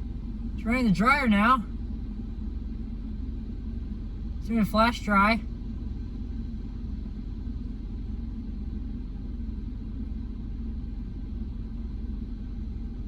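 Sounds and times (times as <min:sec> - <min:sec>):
car wash dryer blowers rumbling: 0:00.0 - 0:13.0.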